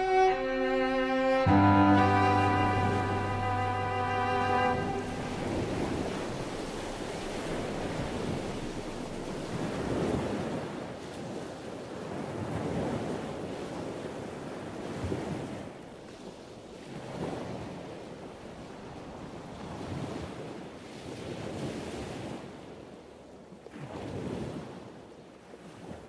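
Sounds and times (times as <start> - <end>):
ocean waves washing ashore: 0.0 - 26.0.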